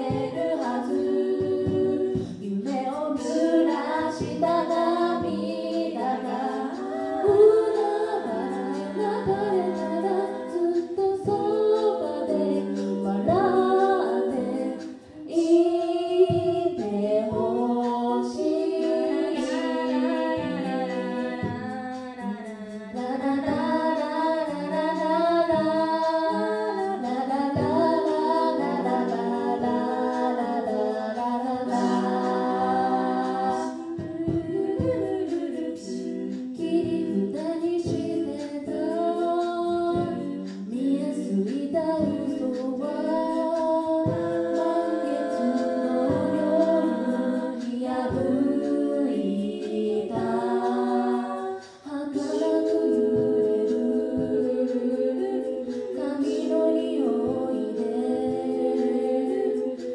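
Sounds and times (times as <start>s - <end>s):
women singing a cappella in harmony: 0.0s - 59.9s.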